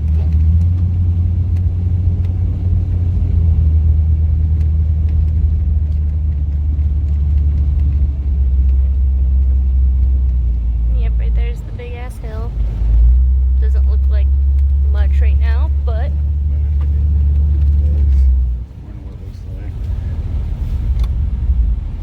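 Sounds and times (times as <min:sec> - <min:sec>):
engine and drivetrain rumble: 0:00.0 - 0:22.0.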